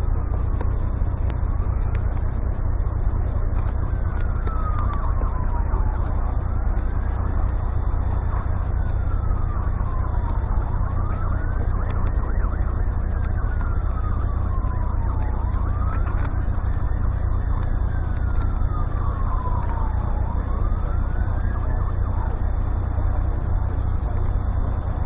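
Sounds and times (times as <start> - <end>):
emergency vehicle wail siren: 0.0 - 25.0
steady low rumble: 0.0 - 25.0.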